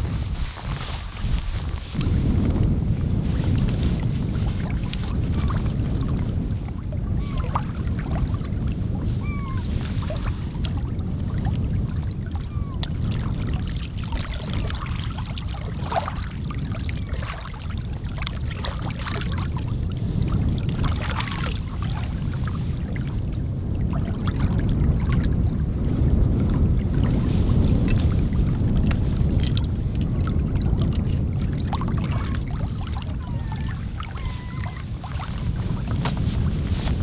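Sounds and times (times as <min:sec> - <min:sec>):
water lapping on rocky shore: 0:00.0 - 0:25.4, 0:26.4 - 0:37.0
steady low rumble: 0:00.0 - 0:37.0.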